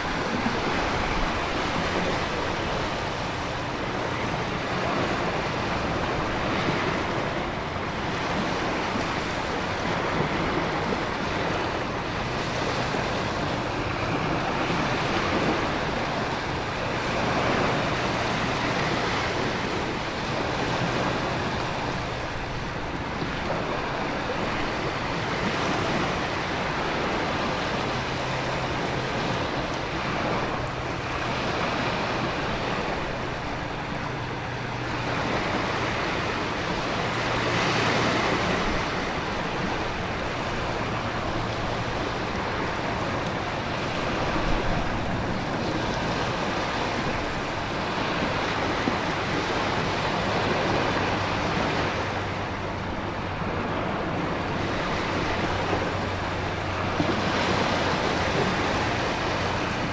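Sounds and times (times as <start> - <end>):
ocean surf: 0.0 - 59.9
wind: 0.0 - 59.9.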